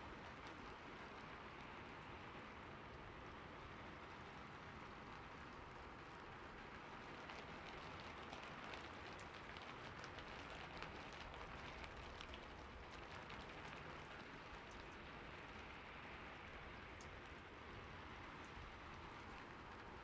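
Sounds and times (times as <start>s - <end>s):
rain falling on a roof: 0.0s - 20.0s.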